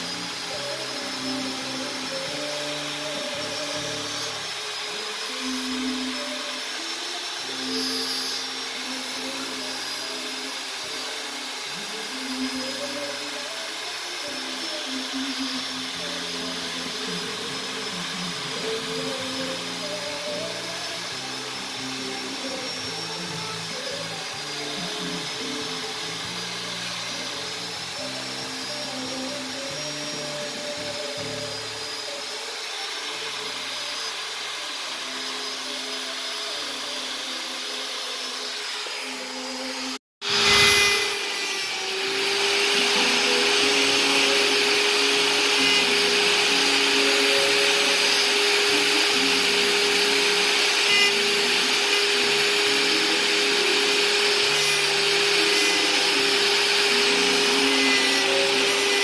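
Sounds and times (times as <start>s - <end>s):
rotary tool grinding wood: 0.0s - 59.0s.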